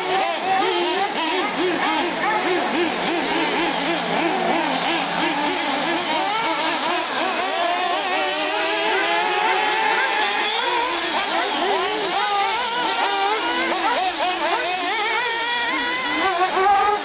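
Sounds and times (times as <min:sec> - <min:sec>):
small engines whining: 0:00.0 - 0:17.0.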